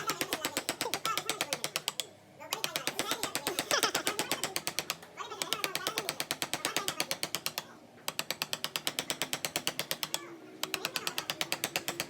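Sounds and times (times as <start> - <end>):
rapid mechanical clicking: 0.0 - 12.0.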